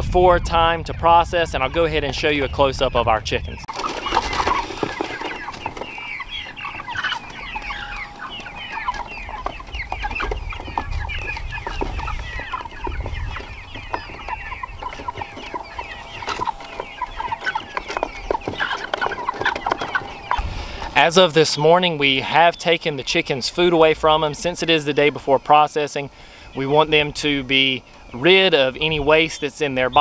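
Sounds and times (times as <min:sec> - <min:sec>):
chickens calling: 0:00.0 - 0:30.0.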